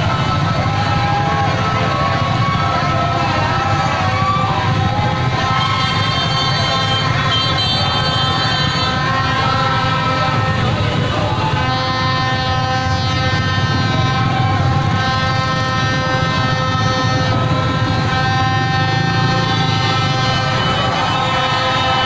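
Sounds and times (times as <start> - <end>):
horns blaring: 0.0 - 22.0
motorbike and vehicle engines: 0.0 - 22.0.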